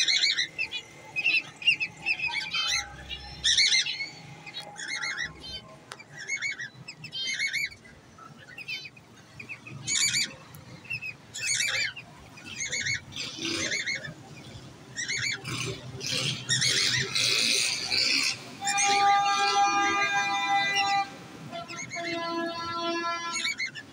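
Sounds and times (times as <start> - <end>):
cockatiels squawking: 0.0 - 21.0, 21.7 - 22.3, 23.2 - 23.9.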